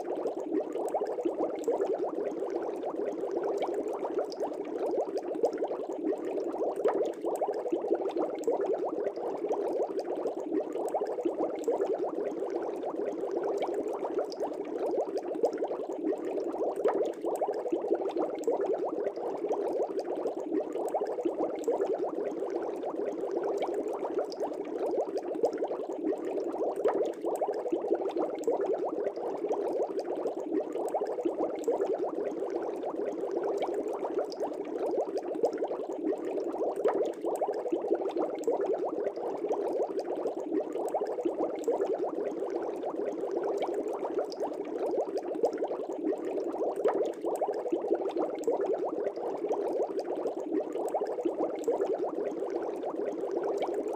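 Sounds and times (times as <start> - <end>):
aquarium air bubbling: 0.0 - 53.9.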